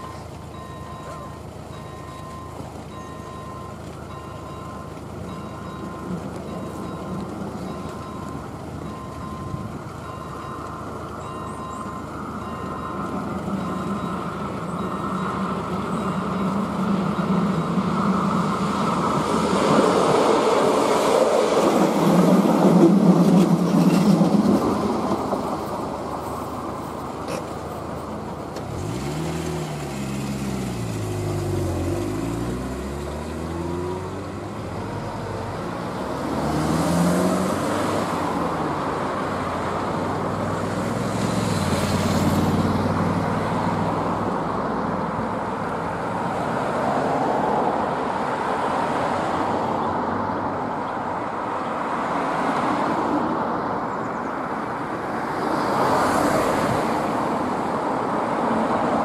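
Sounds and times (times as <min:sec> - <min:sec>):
diesel railcar running: 0:00.0 - 0:52.2
cars driving past: 0:00.0 - 0:59.0
tyres hissing on road: 0:00.0 - 0:59.0.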